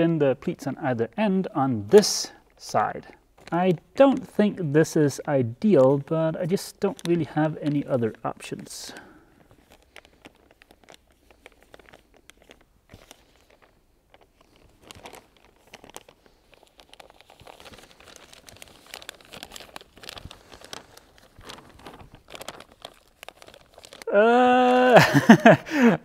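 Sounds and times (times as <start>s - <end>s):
plastic film crinkling: 2.0s - 24.1s.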